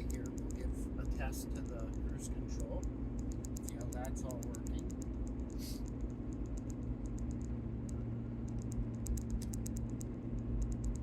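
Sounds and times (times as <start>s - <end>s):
fast light ticking: 0.0s - 11.0s.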